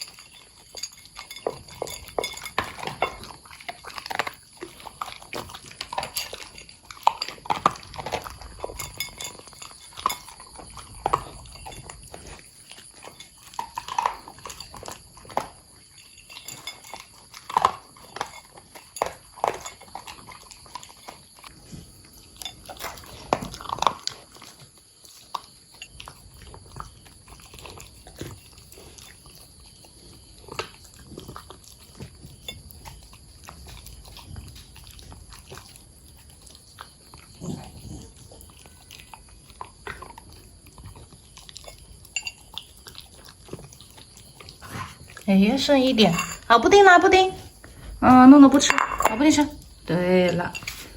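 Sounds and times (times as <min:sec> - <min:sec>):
dogs crunching dry kibble: 0:00.0 - 0:50.9.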